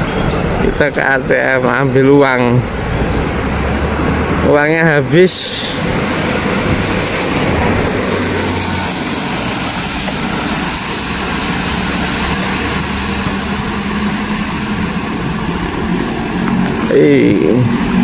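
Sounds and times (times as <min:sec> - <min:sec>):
low engine hum: 0:00.0 - 0:18.0
street traffic noise: 0:00.0 - 0:18.0.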